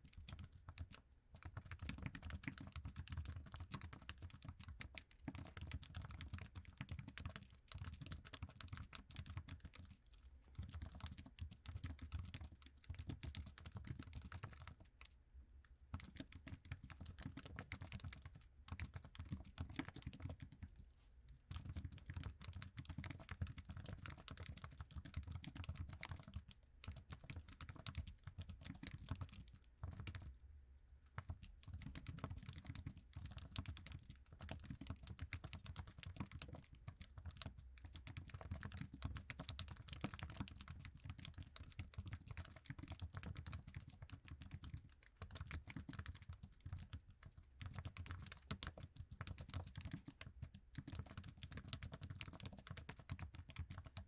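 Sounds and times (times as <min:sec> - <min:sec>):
keyboard typing: 0:00.0 - 0:15.0, 0:15.9 - 0:20.8, 0:21.5 - 0:30.3, 0:31.2 - 0:54.0.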